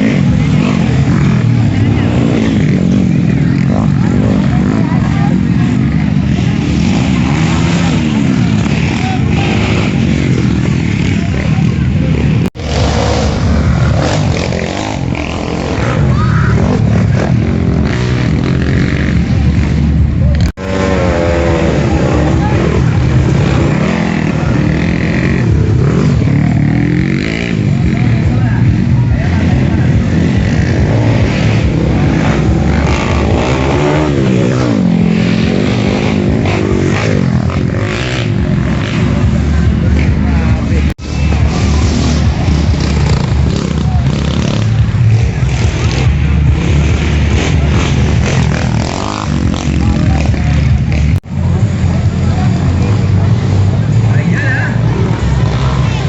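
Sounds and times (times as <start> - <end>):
dirt bike engines running: 0.0 - 56.0
voices of onlookers: 0.0 - 56.0.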